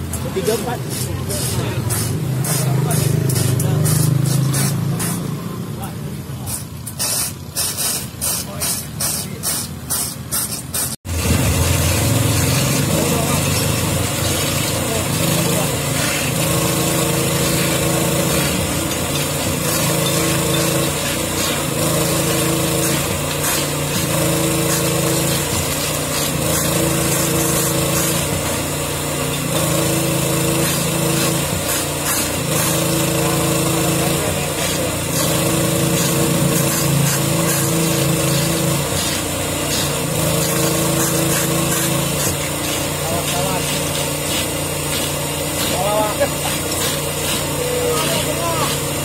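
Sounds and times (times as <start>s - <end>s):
small petrol engine running: 0.0s - 49.0s.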